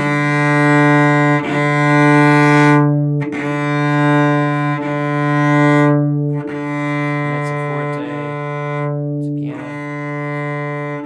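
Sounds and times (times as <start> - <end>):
cello bowing low note: 0.0 - 11.0.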